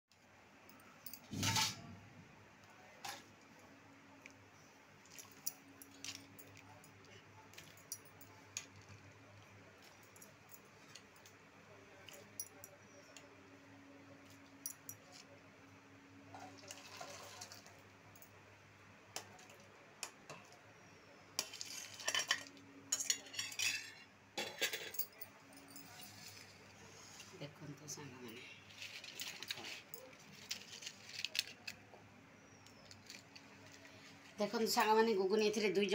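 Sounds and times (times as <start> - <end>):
faint low hum: 0.1 - 35.9.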